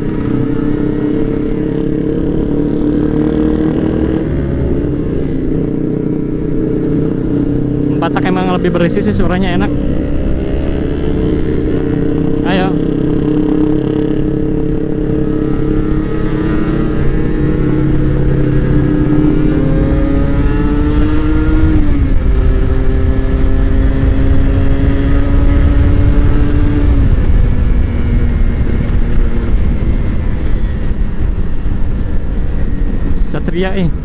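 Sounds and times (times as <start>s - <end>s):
heavy wind: 0.0s - 34.0s
motorcycle engine accelerating: 0.0s - 34.0s
road rumble: 0.0s - 34.0s.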